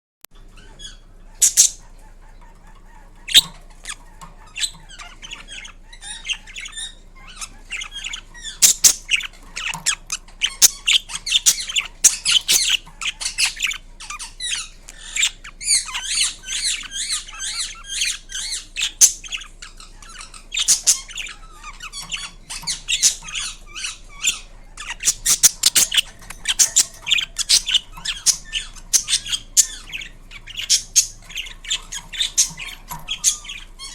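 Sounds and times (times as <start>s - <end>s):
parakeet chattering chirps: 0.4s - 33.9s
parakeet screeching: 0.5s - 33.9s.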